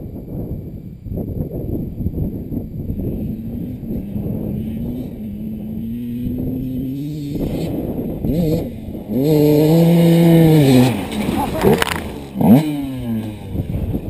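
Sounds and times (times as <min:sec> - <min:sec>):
dirt bike engine accelerating: 0:02.1 - 0:14.0.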